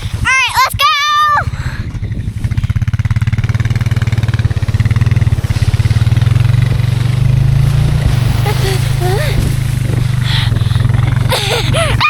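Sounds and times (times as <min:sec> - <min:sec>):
atv engine under throttle: 0:00.0 - 0:12.0.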